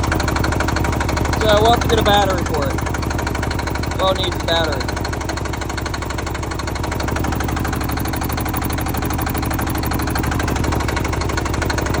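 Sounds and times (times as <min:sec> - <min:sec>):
diesel engine clattering: 0:00.0 - 0:12.0.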